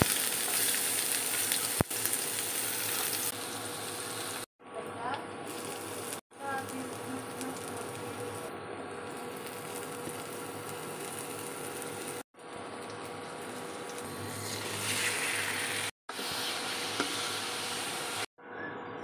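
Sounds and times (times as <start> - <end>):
food sizzling in hot oil: 0.0 - 4.5, 5.4 - 18.3.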